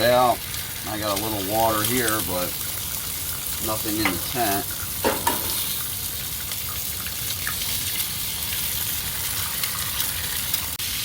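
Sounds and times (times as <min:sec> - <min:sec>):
bacon sizzling in a pan: 0:00.0 - 0:11.0.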